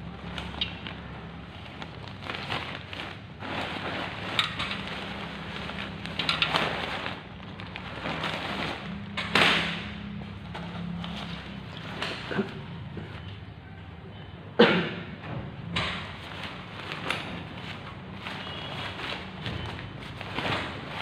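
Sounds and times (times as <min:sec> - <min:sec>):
tent fabric rustling and crinkling: 0:00.1 - 0:13.2, 0:16.2 - 0:21.0.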